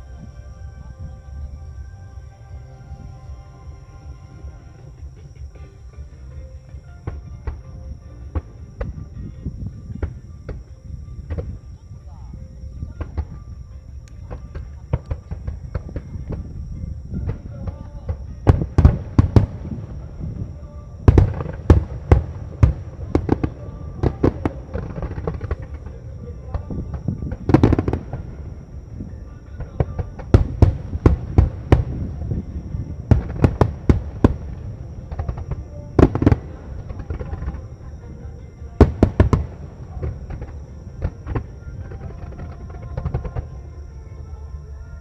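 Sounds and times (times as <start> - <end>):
continuous low rumble: 0.0 - 45.0.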